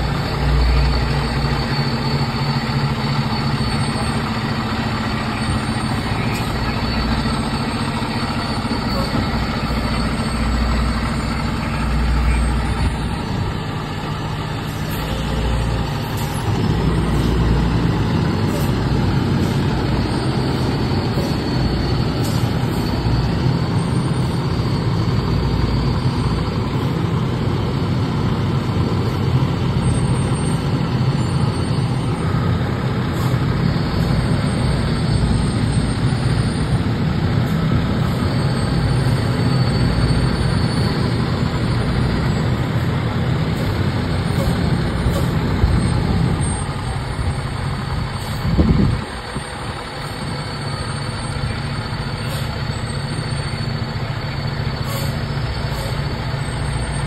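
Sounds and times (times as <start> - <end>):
fire truck diesel engine rumbling: 0.0 - 57.0.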